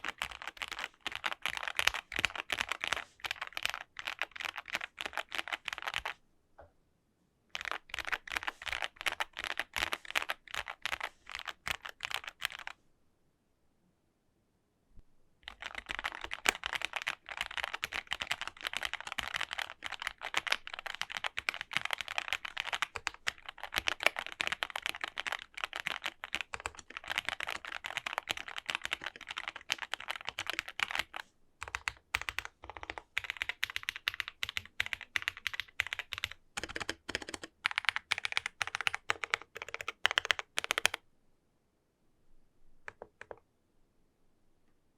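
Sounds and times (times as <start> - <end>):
mechanical keyboard typing: 0.0 - 6.2, 7.6 - 12.7, 15.4 - 41.0, 42.9 - 43.4.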